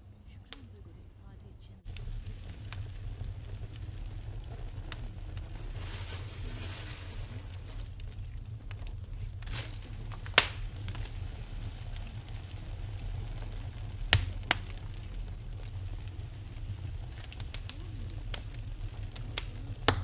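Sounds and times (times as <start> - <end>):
fire popping: 0.0 - 20.0
low fire rumble: 0.0 - 20.0
wood fire crackling: 0.0 - 20.0.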